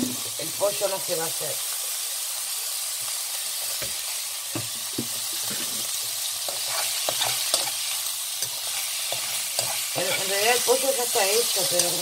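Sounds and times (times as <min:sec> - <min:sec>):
meat sizzling in frying pan: 0:00.0 - 0:12.0.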